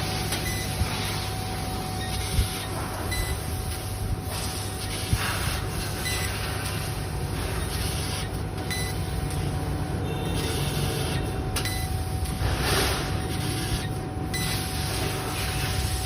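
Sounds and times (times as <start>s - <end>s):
laser cutter hissing: 0.0s - 16.0s.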